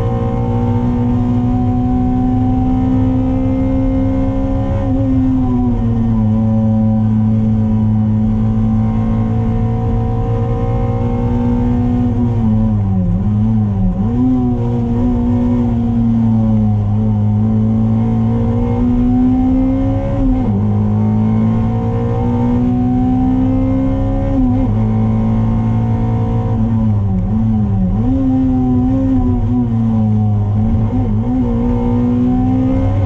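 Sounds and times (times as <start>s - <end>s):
car engine revving: 0.0s - 33.0s
road and wind noise: 0.0s - 33.0s.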